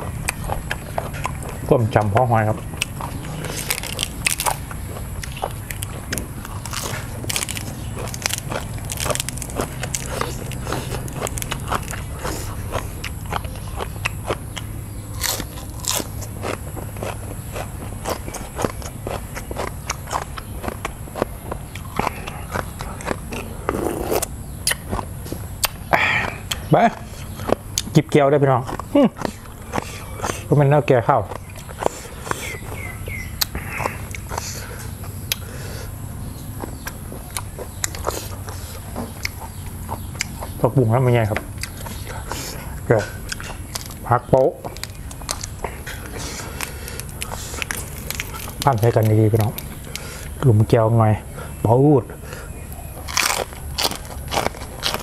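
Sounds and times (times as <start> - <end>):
person chewing crunchily: 0.0 - 50.6, 51.3 - 55.0
low background hum: 0.0 - 55.0.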